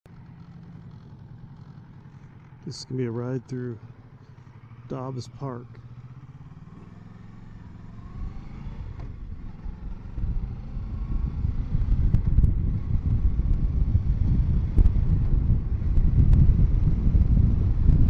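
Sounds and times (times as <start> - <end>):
motorcycle engine accelerating: 0.1 - 18.0
wind and road noise: 0.1 - 18.0.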